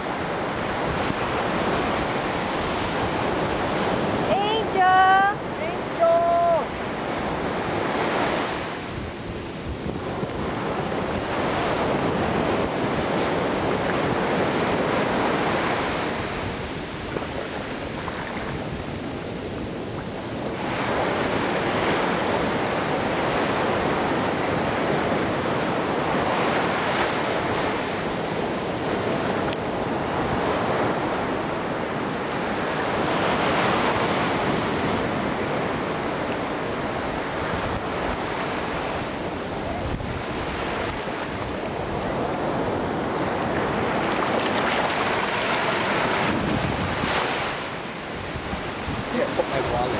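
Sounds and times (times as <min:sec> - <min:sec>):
ocean surf breaking on shore: 0:00.0 - 0:49.9.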